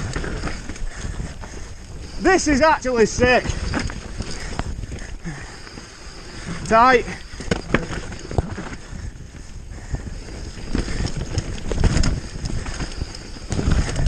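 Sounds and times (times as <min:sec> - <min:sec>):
bike rattling over bumps: 0:00.0 - 0:14.0
bike tyres rumbling over dirt: 0:00.0 - 0:14.0
wind on microphone: 0:00.0 - 0:14.0.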